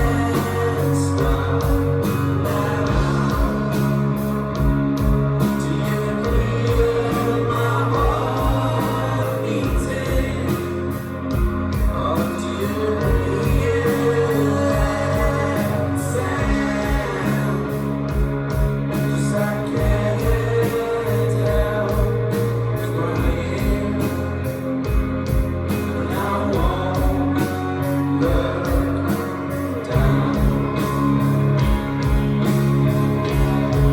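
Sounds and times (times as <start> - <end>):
person singing: 0.0 - 32.2, 33.2 - 33.9
live band playing: 0.0 - 33.9.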